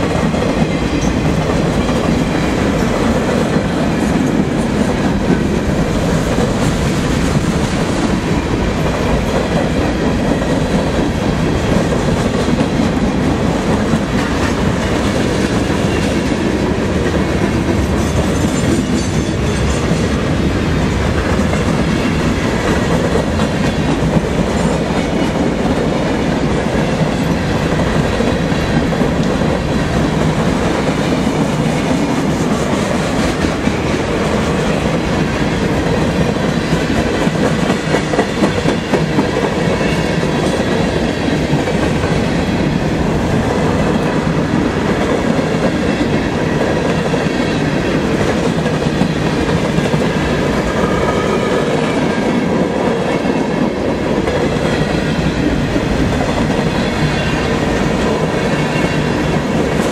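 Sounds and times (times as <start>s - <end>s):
freight train rumbling past: 0.0s - 59.9s
steel wheels rattling on rails: 0.0s - 59.9s.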